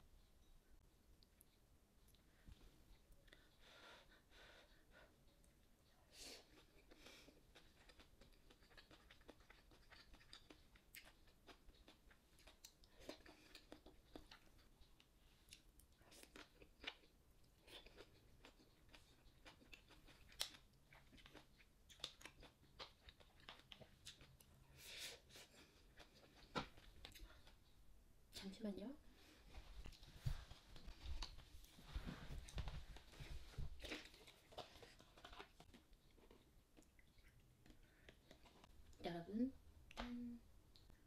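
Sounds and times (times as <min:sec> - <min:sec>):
person chewing quietly: 0:00.2 - 0:27.8, 0:29.1 - 0:39.0.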